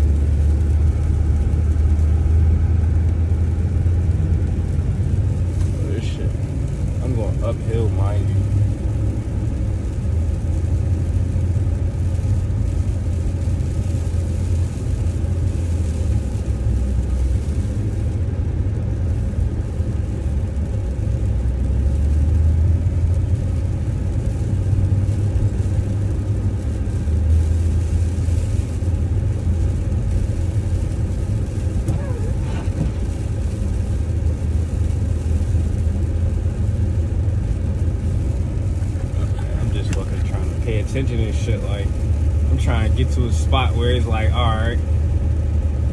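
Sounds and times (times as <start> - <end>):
car engine rumble from inside: 0.0 - 45.9.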